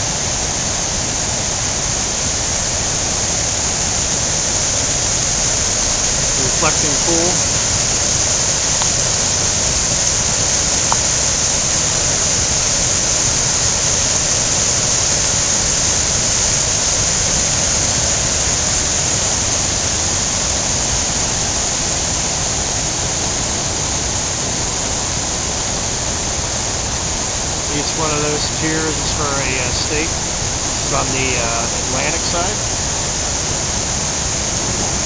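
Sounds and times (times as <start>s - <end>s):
fountain water pouring into pool: 0.0s - 35.0s.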